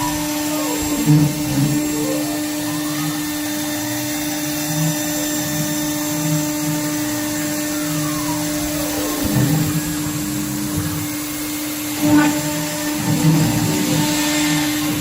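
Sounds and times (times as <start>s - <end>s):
axis motors whining: 0.0s - 15.0s
cnc router spindle whine: 0.0s - 15.0s.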